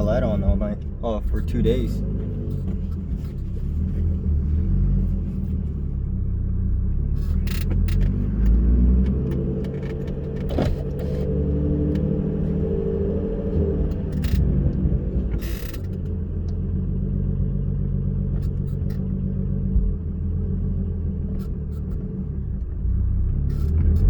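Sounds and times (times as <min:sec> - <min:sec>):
car engine idling low rumble: 0:00.0 - 0:24.0.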